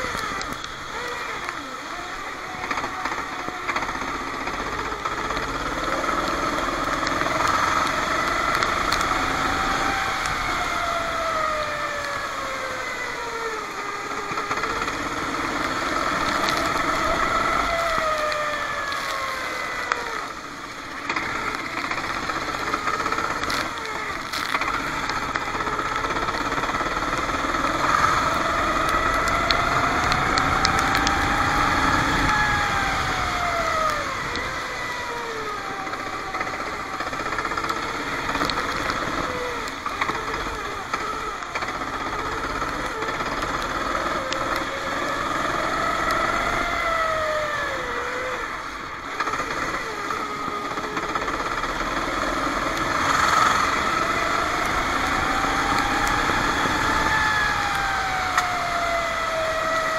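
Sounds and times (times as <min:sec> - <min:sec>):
racing kart engine revving: 0:00.0 - 0:59.9.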